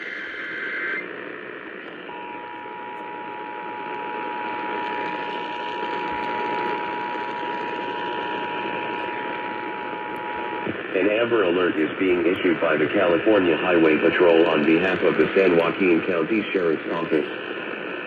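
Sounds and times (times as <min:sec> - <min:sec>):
radio static: 0:00.0 - 0:18.0.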